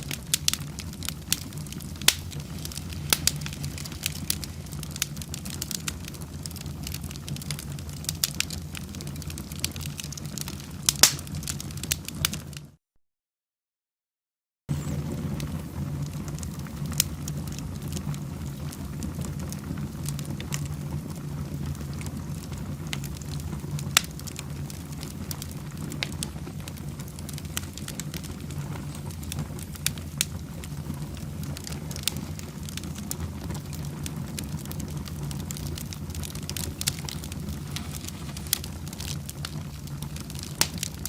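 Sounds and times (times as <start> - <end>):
wood fire crackling: 0.0 - 12.8, 14.7 - 41.0.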